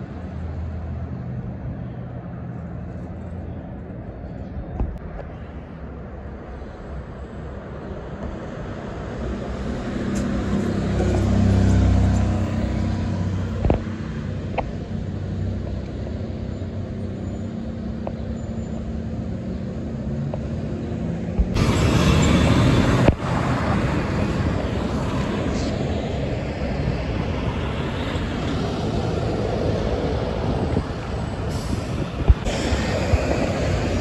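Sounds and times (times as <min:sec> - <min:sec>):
rush of passing vehicles: 0:00.0 - 0:34.0
street traffic: 0:00.0 - 0:34.0
truck passing: 0:00.0 - 0:34.0.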